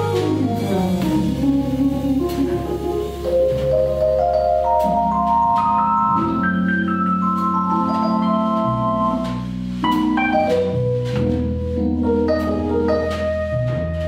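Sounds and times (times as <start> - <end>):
double bass notes: 0.0 - 14.0
piano chords: 0.0 - 14.0.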